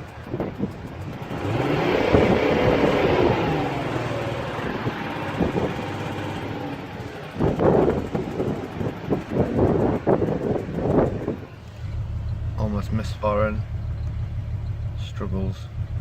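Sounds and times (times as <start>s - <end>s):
diesel engine revving and idling: 0.0s - 16.0s
tapping chuffing engine note: 0.0s - 16.0s.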